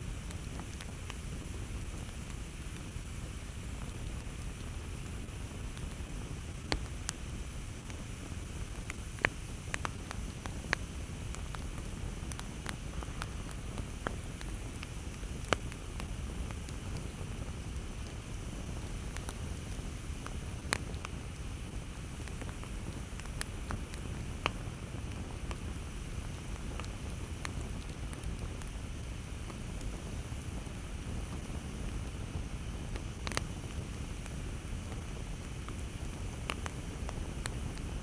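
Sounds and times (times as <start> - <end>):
campfire crackling and popping: 0.0 - 38.0
low fire rumble: 0.0 - 38.0.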